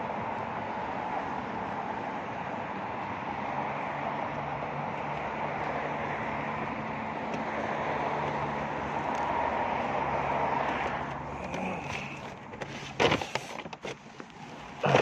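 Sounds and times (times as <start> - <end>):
low engine hum: 0.0 - 15.0
road traffic noise: 0.0 - 15.0.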